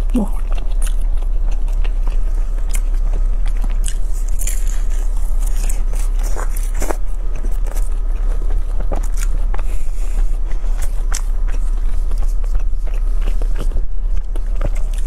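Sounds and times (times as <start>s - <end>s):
chewing pastry: 0.0s - 15.0s
low hum: 0.0s - 15.0s.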